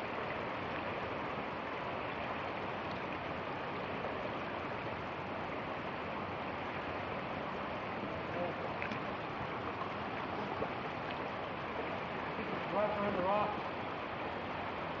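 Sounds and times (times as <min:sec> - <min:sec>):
fast-flowing creek water: 0:00.0 - 0:15.0.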